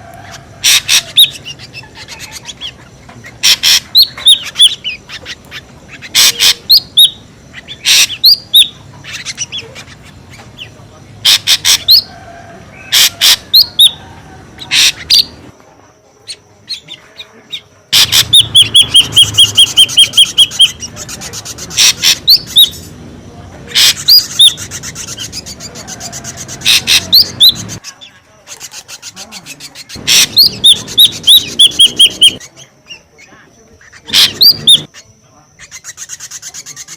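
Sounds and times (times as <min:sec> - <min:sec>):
bird calling noisily: 0:00.0 - 0:15.5, 0:16.2 - 0:23.0, 0:23.6 - 0:36.9
quick repeated bird notes: 0:00.6 - 0:12.1, 0:16.3 - 0:23.0, 0:23.7 - 0:32.6, 0:34.0 - 0:36.9.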